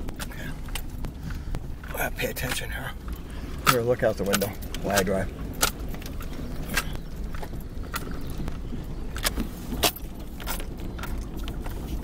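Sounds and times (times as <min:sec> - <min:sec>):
vehicle rumble on dirt road: 0:00.0 - 0:12.0.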